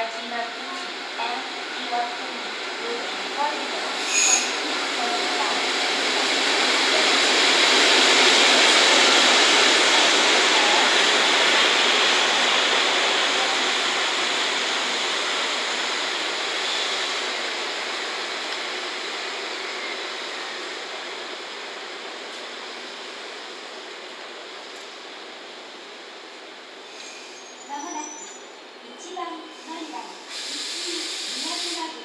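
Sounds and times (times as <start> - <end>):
freight train passing hiss: 0.0 - 32.0.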